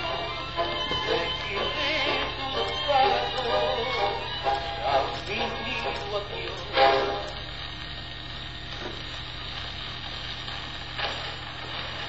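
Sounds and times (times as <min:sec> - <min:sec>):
record surface hiss: 0:00.0 - 0:12.0.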